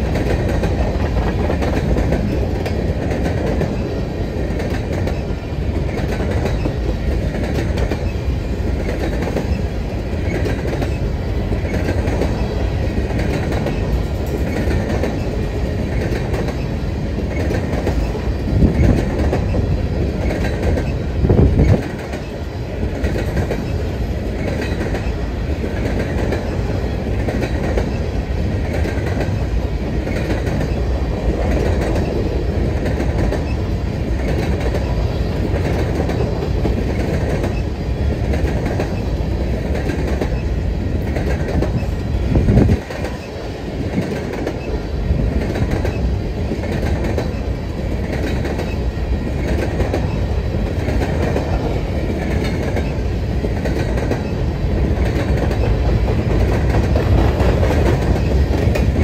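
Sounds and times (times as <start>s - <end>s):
freight train wheels clicking: 0.0s - 59.0s.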